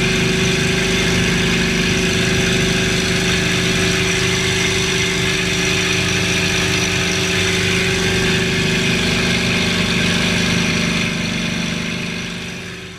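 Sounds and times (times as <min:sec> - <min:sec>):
piston aircraft engine running: 0:00.0 - 0:12.9.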